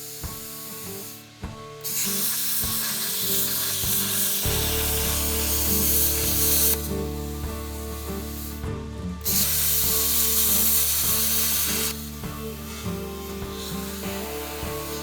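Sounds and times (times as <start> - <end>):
background music: 0.0 - 15.0
power cutter hissing through steel: 0.0 - 15.0.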